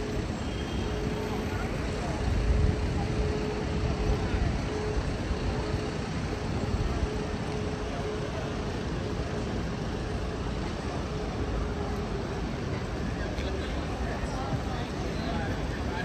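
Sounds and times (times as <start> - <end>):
faint engine hum: 0.0 - 16.0
street traffic rumbling: 0.0 - 16.0.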